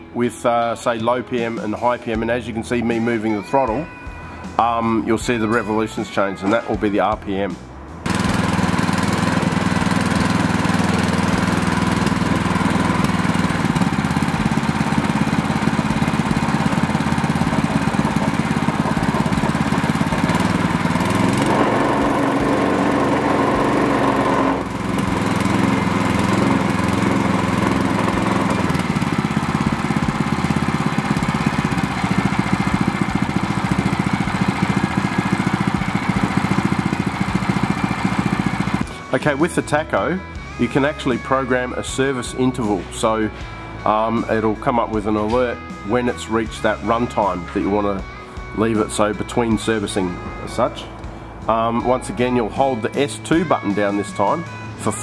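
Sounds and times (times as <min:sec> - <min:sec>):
four-stroke engine running: 0:08.0 - 0:55.0.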